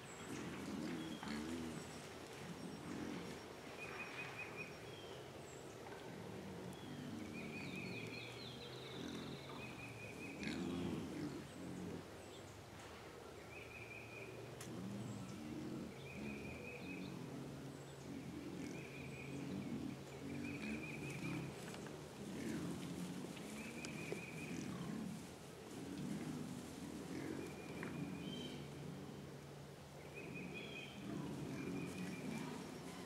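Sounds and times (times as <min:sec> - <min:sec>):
hogs grunting: 0:00.0 - 0:12.4, 0:14.4 - 0:33.0.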